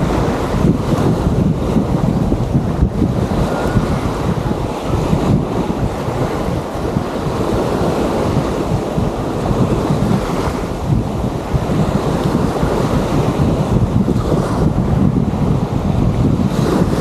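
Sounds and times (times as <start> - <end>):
surf washing on shore: 0.0 - 17.0
wind gusts on microphone: 0.0 - 17.0.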